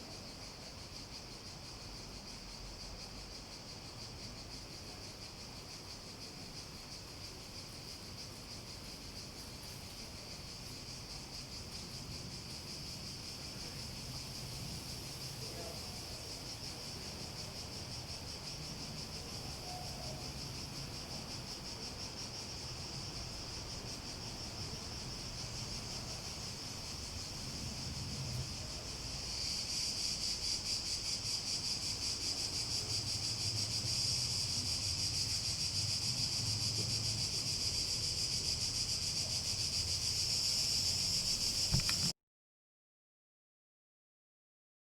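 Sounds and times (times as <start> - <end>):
cicadas buzzing: 0.1 - 42.1.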